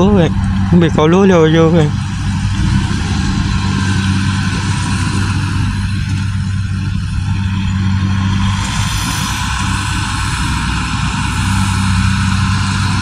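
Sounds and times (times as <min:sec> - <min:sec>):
combine harvester diesel engine: 0:00.0 - 0:13.0
harvesting machinery clatter: 0:00.0 - 0:13.0.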